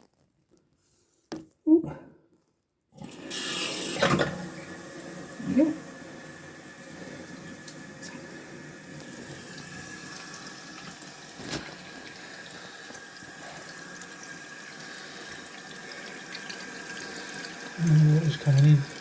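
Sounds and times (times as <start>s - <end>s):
water filling toilet cistern: 3.0s - 19.0s.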